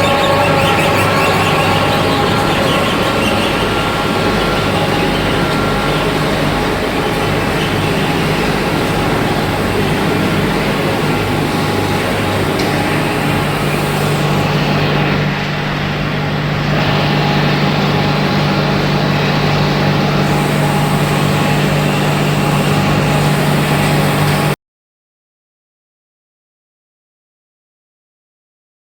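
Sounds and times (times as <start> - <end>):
low hum: 0.0 - 24.6
production line machinery running: 0.0 - 24.6.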